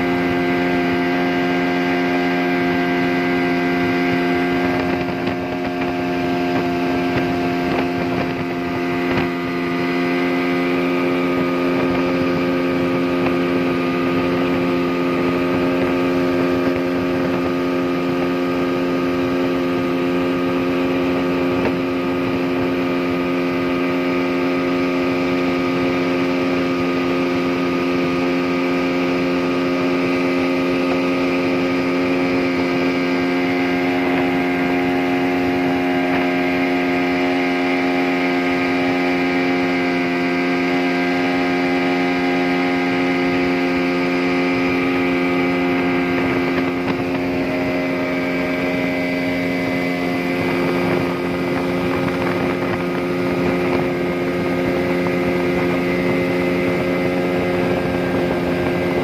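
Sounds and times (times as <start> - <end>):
outboard motor running: 0.0 - 59.0
water rushing along hull: 0.0 - 59.0.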